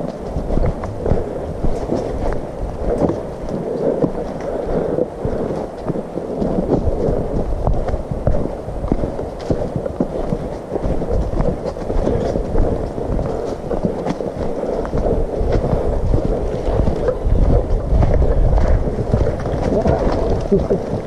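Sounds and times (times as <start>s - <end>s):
low microphone rumble: 0.0s - 21.0s
trekking poles tapping: 0.0s - 21.0s.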